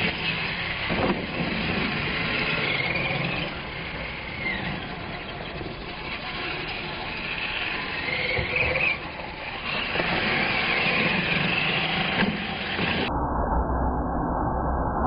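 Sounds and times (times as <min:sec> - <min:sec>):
model truck motors whining: 0:00.0 - 0:13.1.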